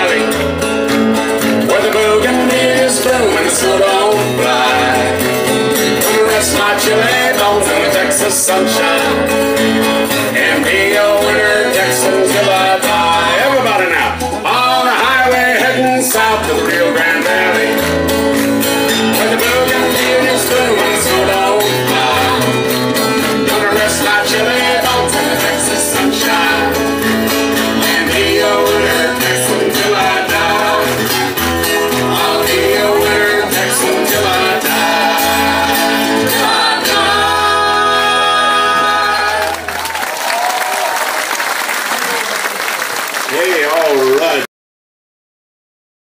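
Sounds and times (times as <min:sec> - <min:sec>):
people singing: 0:00.0 - 0:00.5, 0:01.6 - 0:39.9
acoustic guitars: 0:00.0 - 0:44.5.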